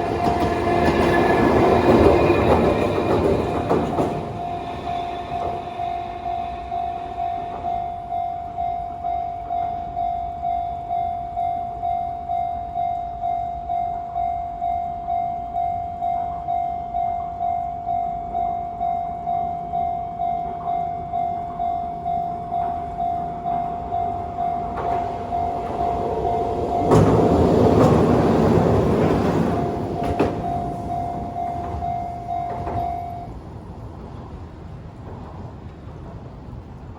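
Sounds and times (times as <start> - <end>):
level-crossing warning bell: 0.0 - 34.0
train passing: 0.0 - 36.9.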